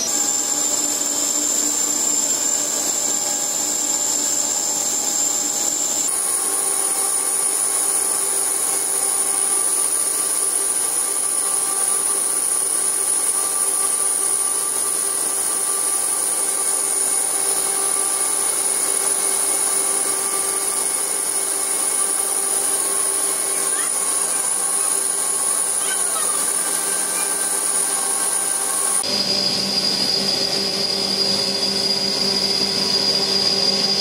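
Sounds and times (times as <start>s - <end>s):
factory machinery drone: 0.0s - 34.0s
high-pitched machine whine: 0.0s - 34.0s.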